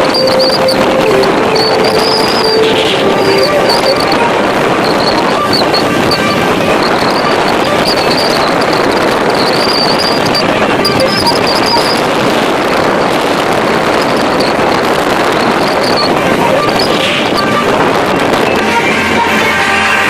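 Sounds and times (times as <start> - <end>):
high thin whine: 0.0 - 20.0
motorboat engine: 0.0 - 20.0.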